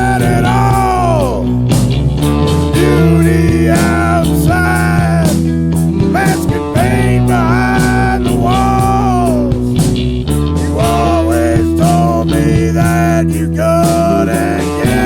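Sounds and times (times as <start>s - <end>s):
rock and roll band playing: 0.0s - 15.0s
sliding lead melody line: 0.0s - 15.0s.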